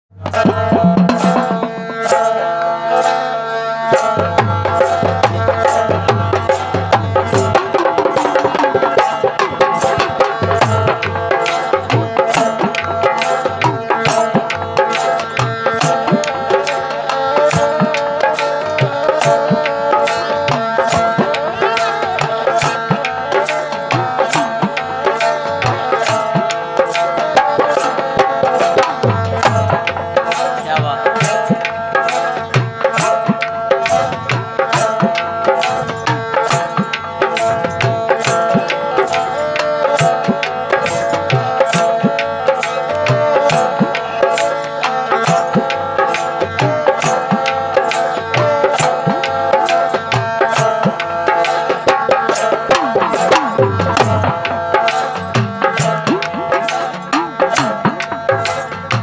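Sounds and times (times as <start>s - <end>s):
fast hand drum rhythm: 0.1s - 2.7s, 3.6s - 59.0s.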